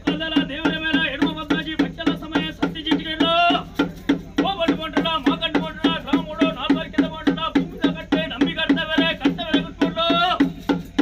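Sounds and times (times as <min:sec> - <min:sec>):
drums beating fast rhythm: 0:00.0 - 0:11.0.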